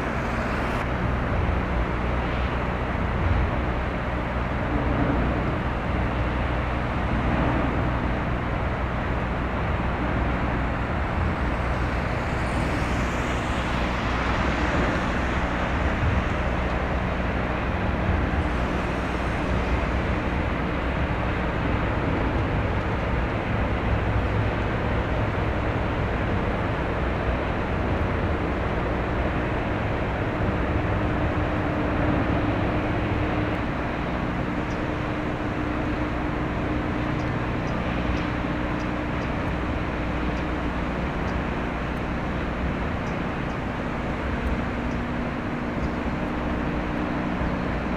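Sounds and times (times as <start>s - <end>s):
ship diesel engine drone: 0.0s - 47.9s
traffic-like noise: 0.0s - 47.9s.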